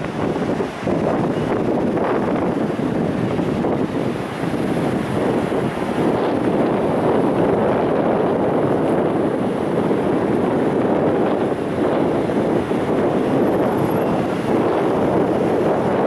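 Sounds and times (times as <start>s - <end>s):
small waves washing on sand: 0.0s - 16.0s
wind noise on microphone: 0.0s - 16.0s.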